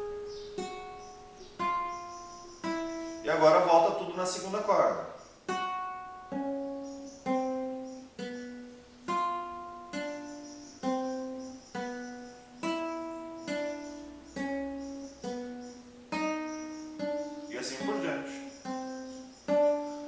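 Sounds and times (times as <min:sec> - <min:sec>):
acoustic guitar plucked notes: 0:00.0 - 0:20.0.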